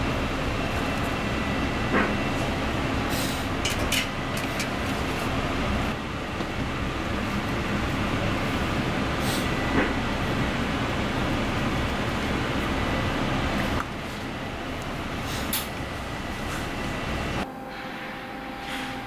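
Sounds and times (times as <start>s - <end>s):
machinery rumble and hiss: 0.0s - 19.0s.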